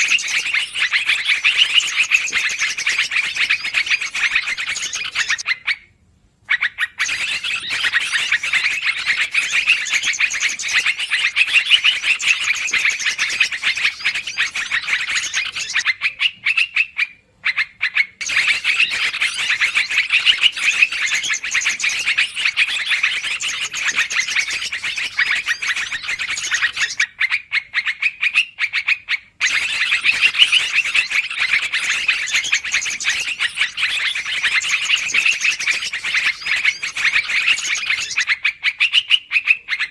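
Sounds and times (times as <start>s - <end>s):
bulbuls chattering: 0.0s - 5.4s, 7.0s - 16.5s, 18.2s - 27.0s, 29.4s - 38.3s.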